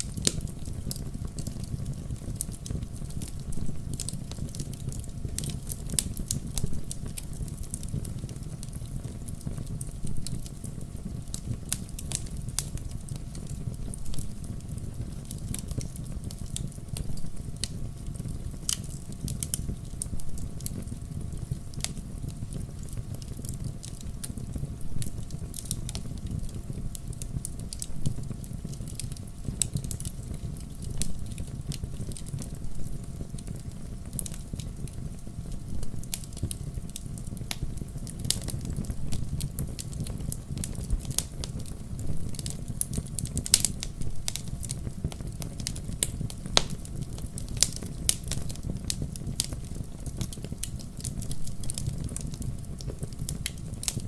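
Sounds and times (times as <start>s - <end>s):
campfire crackling and popping: 0.0s - 54.0s
fire low rumble: 0.0s - 54.0s.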